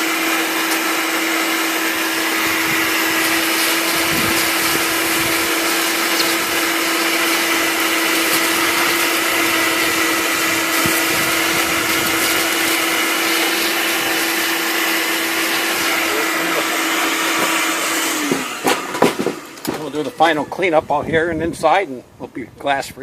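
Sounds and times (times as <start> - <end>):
vacuum cleaner running: 0.0 - 20.7.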